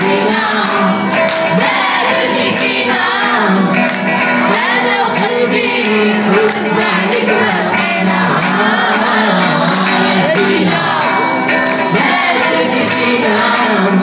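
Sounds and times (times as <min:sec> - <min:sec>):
acoustic guitars strummed: 0:00.0 - 0:14.0
crowd singing along: 0:00.0 - 0:14.0
hand clapping: 0:00.0 - 0:14.0.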